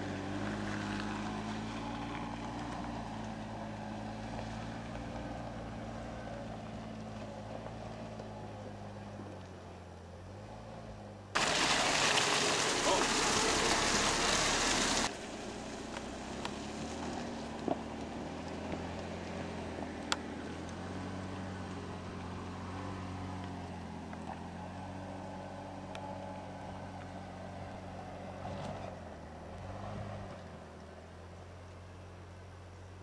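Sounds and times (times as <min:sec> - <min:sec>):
vehicle rushing past: 0:00.0 - 0:31.4
distant engine drone: 0:00.0 - 0:33.0.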